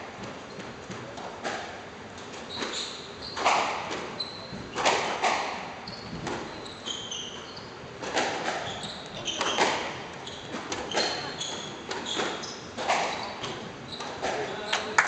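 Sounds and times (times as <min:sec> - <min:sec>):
squash ball hitting rackets and walls: 0:00.0 - 0:14.7
shoes squeaking on wooden floor: 0:02.4 - 0:15.0.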